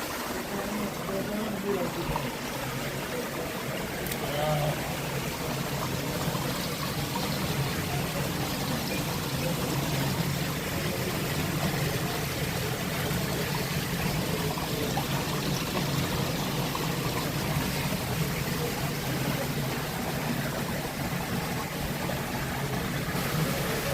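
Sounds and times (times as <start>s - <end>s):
running water: 0.0s - 23.9s.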